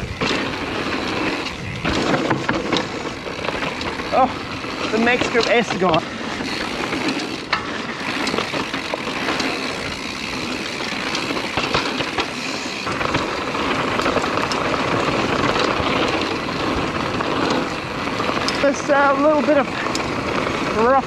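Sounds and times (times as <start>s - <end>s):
bike rattling: 0.0s - 21.0s
tyres rolling over rough ground: 0.0s - 21.0s.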